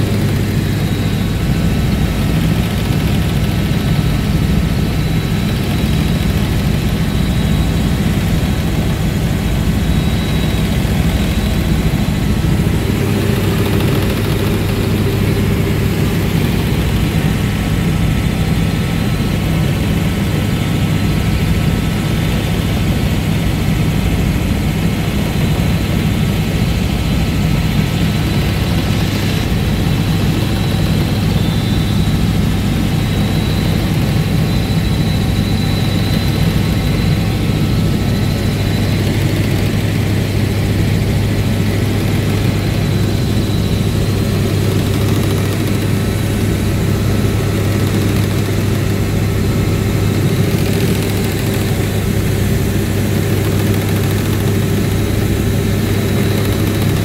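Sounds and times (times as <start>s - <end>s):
helicopter engine and rotor noise: 0.0s - 57.0s.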